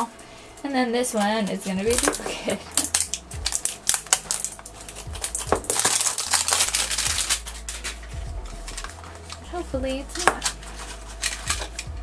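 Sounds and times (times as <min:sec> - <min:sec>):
plastic wrapper crinkling: 0:01.1 - 0:12.0.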